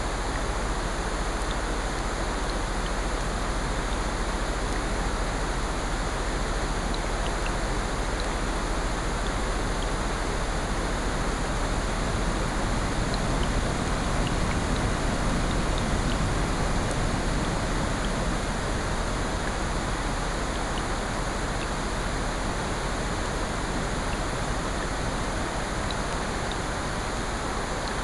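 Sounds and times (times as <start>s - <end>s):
rain: 0.0s - 28.0s.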